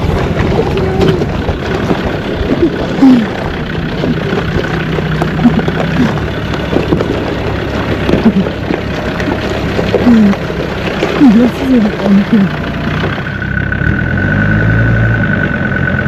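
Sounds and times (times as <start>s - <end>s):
stones crunching under tyres: 0.0s - 15.8s
diesel engine at low revs: 0.0s - 16.0s.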